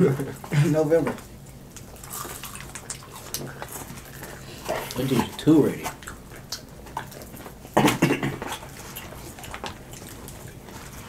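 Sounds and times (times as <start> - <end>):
chewing and mouth sounds: 0.3 - 11.0.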